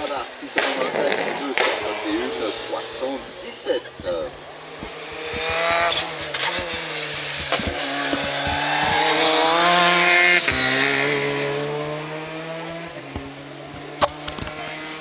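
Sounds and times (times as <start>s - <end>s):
exhaust crackles: 0.0s - 15.0s
race car engine accelerating: 0.0s - 15.0s.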